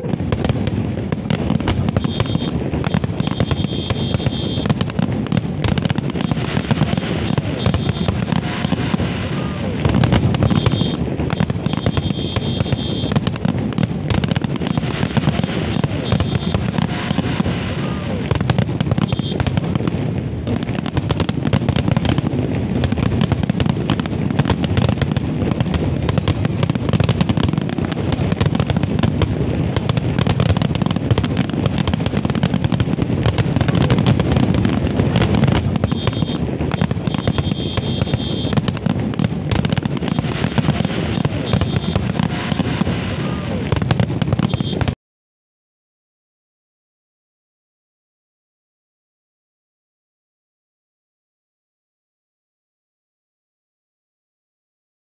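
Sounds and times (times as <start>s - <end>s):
fireworks bursts and bangs: 0.0s - 45.0s
fireworks crackling: 0.0s - 45.0s.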